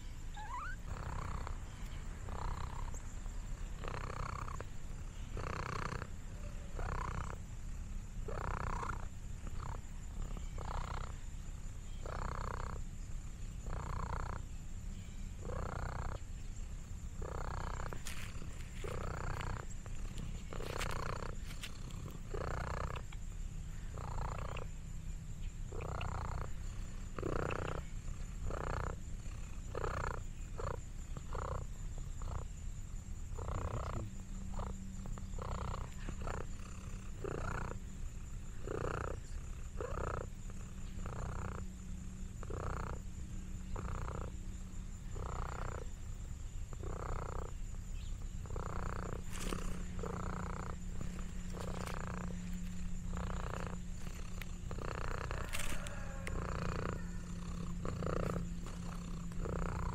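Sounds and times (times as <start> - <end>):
cat purring: 0.3 - 3.0, 3.6 - 11.1, 12.0 - 12.8, 13.6 - 14.4, 15.4 - 16.2, 17.2 - 23.3, 23.9 - 24.7, 25.7 - 32.5, 33.3 - 43.1, 43.7 - 45.9, 46.7 - 47.5, 48.3 - 59.9.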